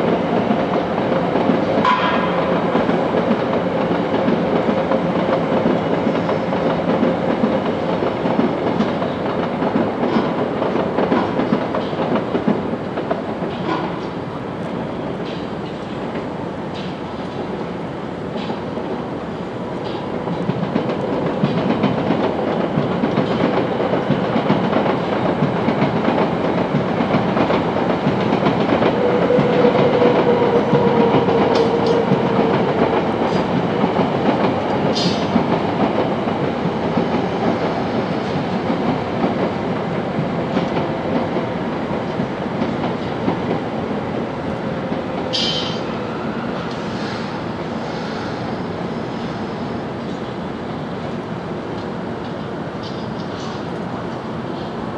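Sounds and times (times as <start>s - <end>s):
train rolling past: 0.0s - 54.9s.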